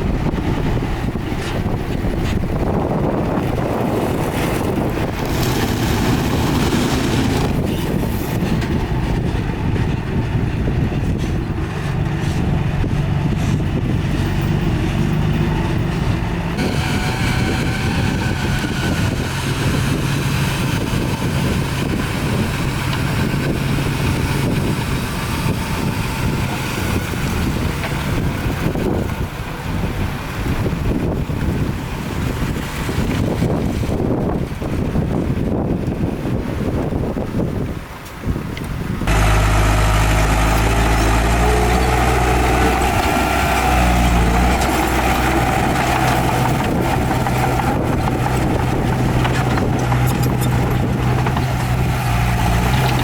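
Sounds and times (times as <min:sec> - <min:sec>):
heavy diesel engine drone: 0:00.0 - 0:34.3, 0:39.0 - 0:53.0
higher whine and rattle: 0:00.0 - 0:34.8, 0:39.0 - 0:53.0.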